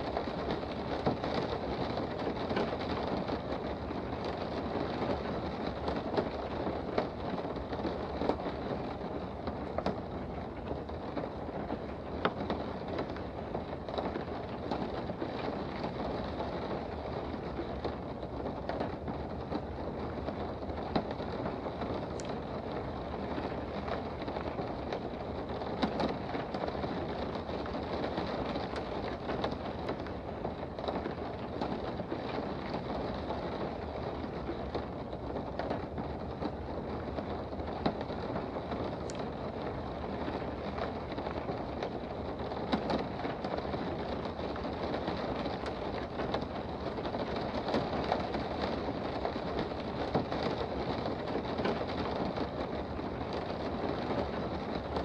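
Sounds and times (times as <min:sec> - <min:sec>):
raindrop taps: 0:00.0 - 0:55.0
steady rain hiss: 0:00.0 - 0:55.0.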